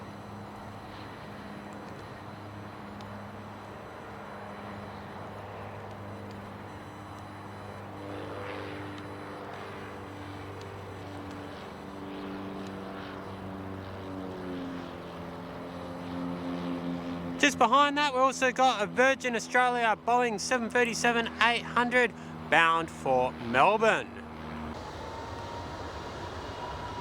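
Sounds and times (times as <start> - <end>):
jet engines of taxiing airliner: 0.0 - 27.0.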